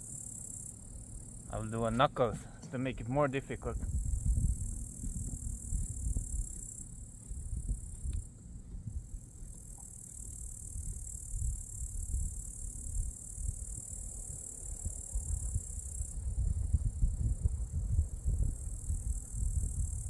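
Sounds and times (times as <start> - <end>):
insects chirping: 0.0 - 20.0
wind rumbling on microphone: 3.6 - 20.0.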